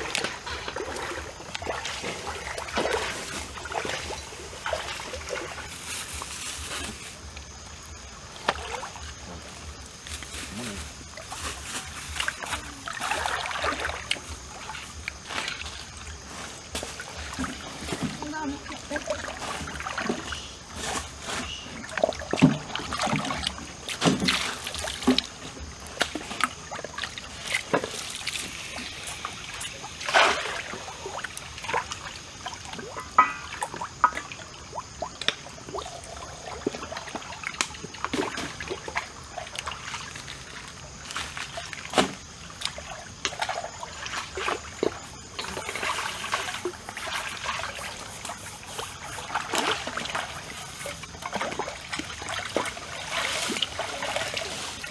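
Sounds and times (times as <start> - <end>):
stream trickling: 0.0 - 54.9.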